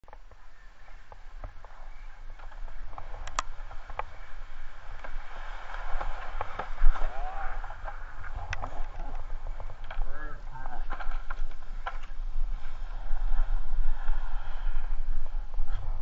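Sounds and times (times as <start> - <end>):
skis and poles clicking: 0.0 - 16.0
skis scraping over snow: 0.1 - 16.0
wind buffeting microphone: 0.2 - 16.0.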